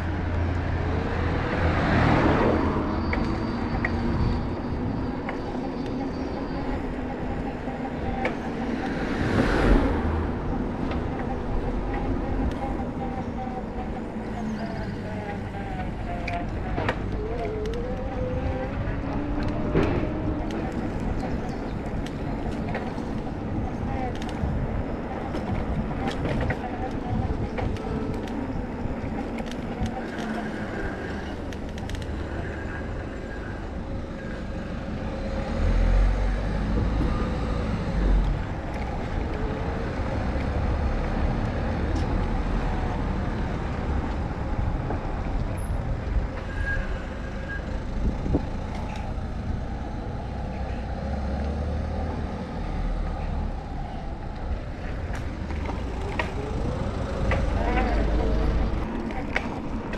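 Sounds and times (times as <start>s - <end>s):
road traffic: 0.0s - 59.9s
wind rumble on microphone: 0.0s - 59.9s.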